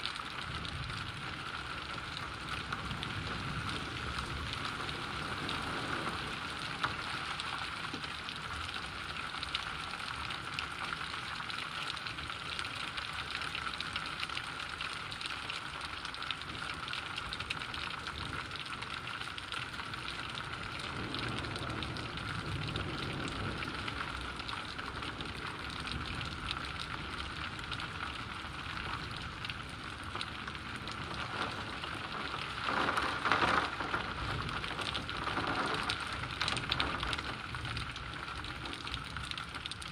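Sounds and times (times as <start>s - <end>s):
heavy rain on trees and pavement: 0.0s - 39.9s.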